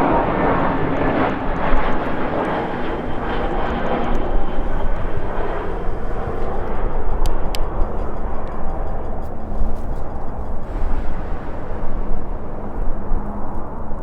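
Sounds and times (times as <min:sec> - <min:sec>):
jet airliner flying by: 0:00.0 - 0:14.0
wind buffeting microphone: 0:00.0 - 0:14.0.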